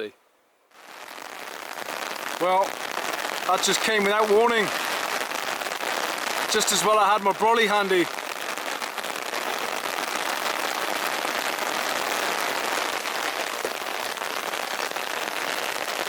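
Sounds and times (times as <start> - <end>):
rain pattering on umbrella: 0.7 - 16.0.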